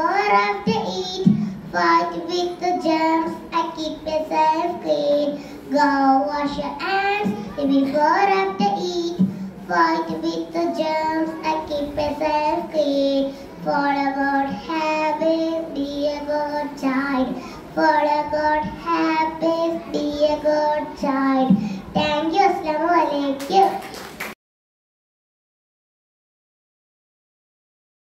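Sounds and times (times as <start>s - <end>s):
girl singing into microphone: 0.0s - 23.9s.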